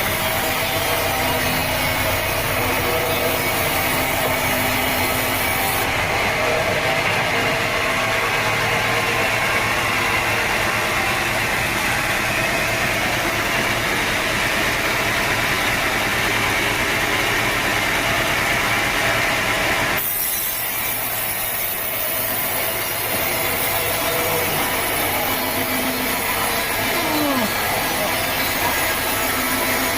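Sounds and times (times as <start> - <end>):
sawmill saw cutting log: 0.0 - 18.0, 19.4 - 29.9.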